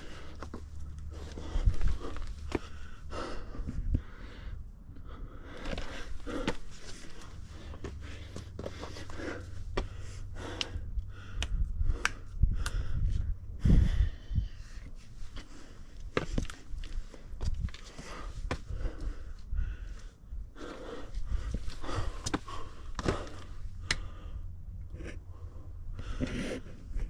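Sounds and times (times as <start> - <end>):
person breathing hard: 0.0 - 27.0.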